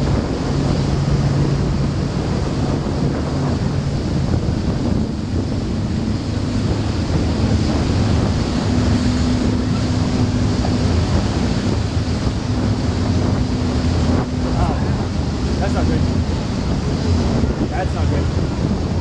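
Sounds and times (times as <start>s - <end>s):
churned water wash: 0.0s - 19.0s
powerboat engines droning: 0.0s - 19.0s
wind buffeting microphone: 0.0s - 19.0s.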